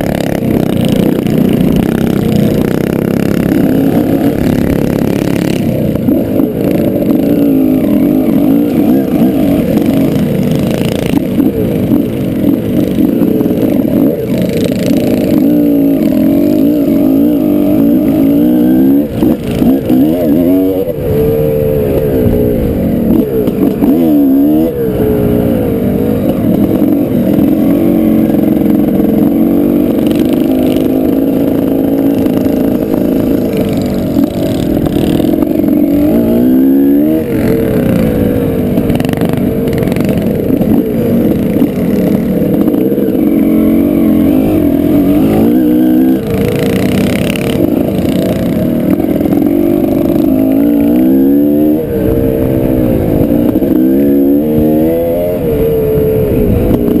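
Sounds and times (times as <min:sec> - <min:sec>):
mini bike engine revving: 0:00.0 - 0:57.0.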